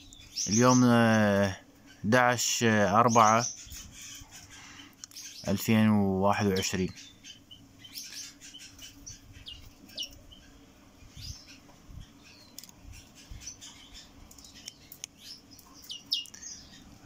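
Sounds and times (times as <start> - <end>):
low steady background hum: 0.0 - 17.0
small birds chirping: 0.0 - 17.0.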